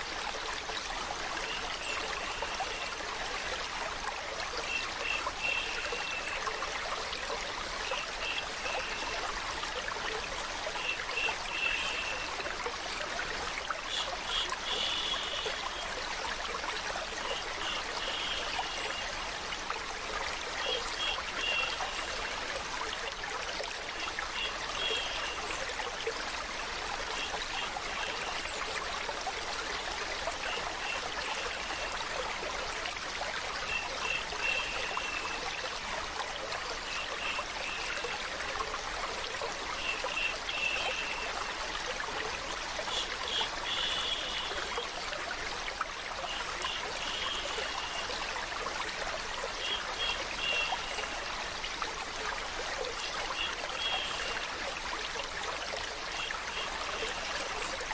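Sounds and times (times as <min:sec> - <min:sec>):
water plinks: 0:00.0 - 0:57.9
water trickling and flowing: 0:00.0 - 0:57.9.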